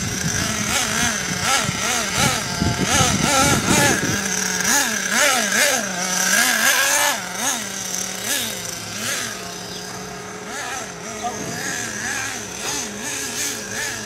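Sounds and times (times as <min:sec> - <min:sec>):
toy truck motor whining: 0:00.0 - 0:14.0.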